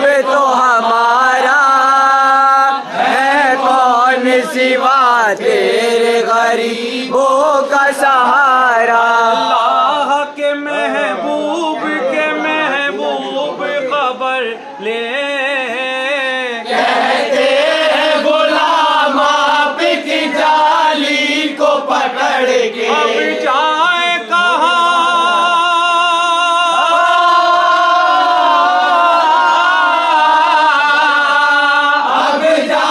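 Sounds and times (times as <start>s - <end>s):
men singing in unison: 0.0s - 32.9s.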